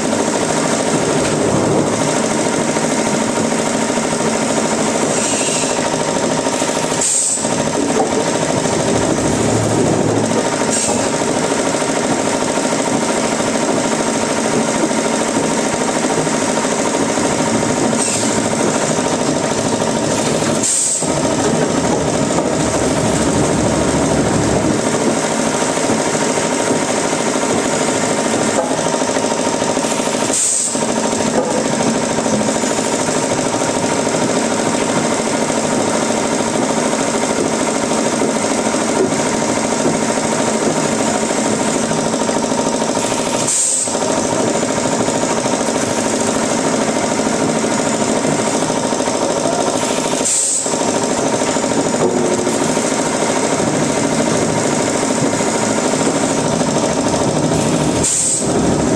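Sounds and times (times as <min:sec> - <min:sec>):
wood-processing machinery humming and rattling: 0:00.0 - 0:58.9.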